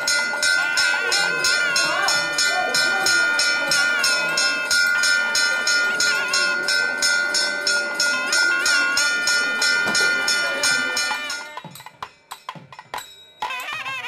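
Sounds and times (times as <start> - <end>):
crowd voices: 0.0 - 12.7
temple bell rung rapidly: 0.0 - 14.0.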